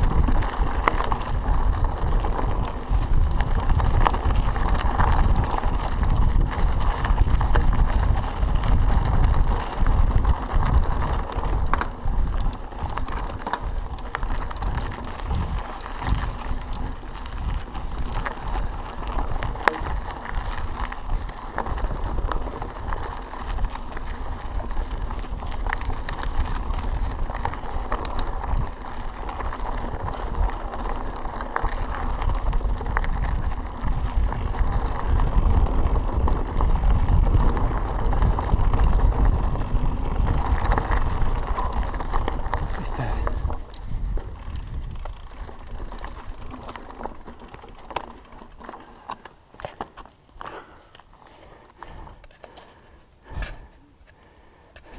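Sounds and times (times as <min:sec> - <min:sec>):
wind buffeting microphone: 0:00.0 - 0:47.9
bike clicks and rattles: 0:00.0 - 0:54.9
bike tyres rolling over gravel: 0:00.0 - 0:54.9.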